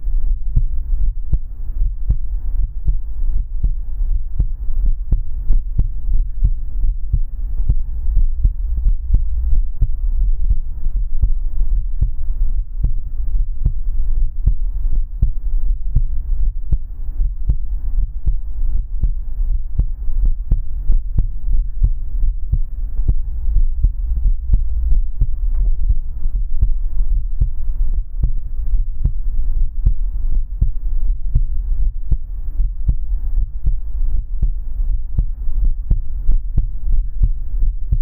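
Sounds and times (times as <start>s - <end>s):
deep hum: 0.0s - 38.0s
heartbeat: 0.0s - 38.0s.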